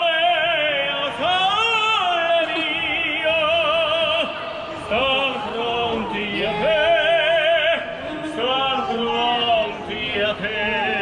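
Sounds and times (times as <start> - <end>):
person singing operatically: 0.0 - 11.0.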